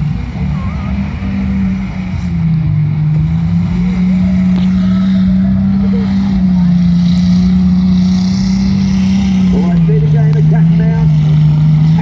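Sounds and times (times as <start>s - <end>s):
car engines running loudly: 0.0s - 12.0s.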